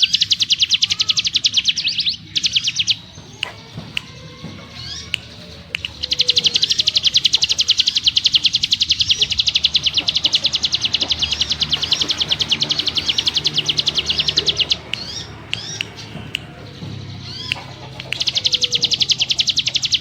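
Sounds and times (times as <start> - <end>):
bird rattling trill: 0.0 - 20.0.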